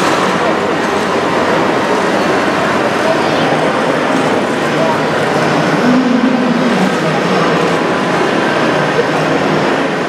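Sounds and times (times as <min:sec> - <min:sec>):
crowd chatter: 0:00.0 - 0:10.0.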